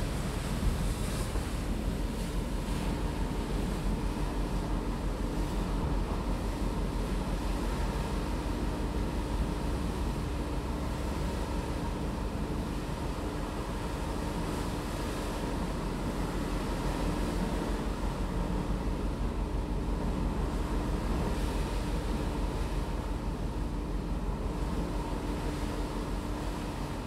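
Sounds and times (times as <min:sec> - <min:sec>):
ferry engine hum: 0:00.0 - 0:27.0
wind and water rushing: 0:00.0 - 0:27.0.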